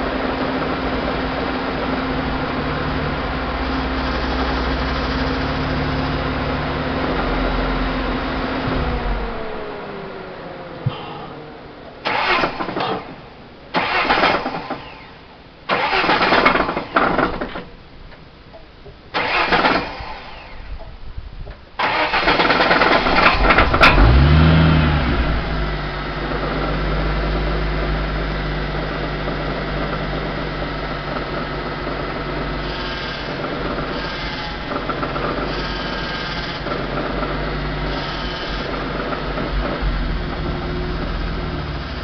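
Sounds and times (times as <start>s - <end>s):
car engine cranking and idling: 0.0s - 42.0s.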